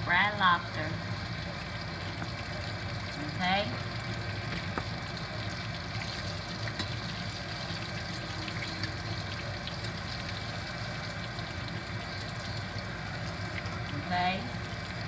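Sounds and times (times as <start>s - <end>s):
grease sizzling in skillet: 0.0s - 15.0s.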